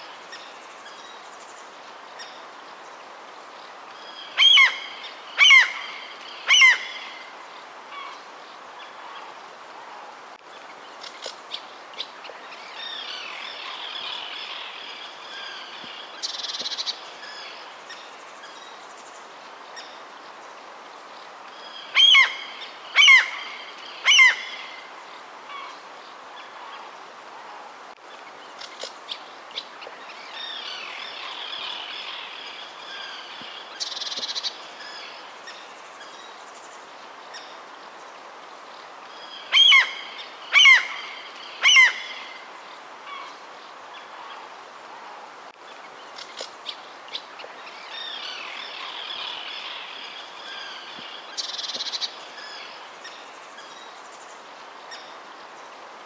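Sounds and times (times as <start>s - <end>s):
faint outdoor hiss: 0.0s - 56.0s.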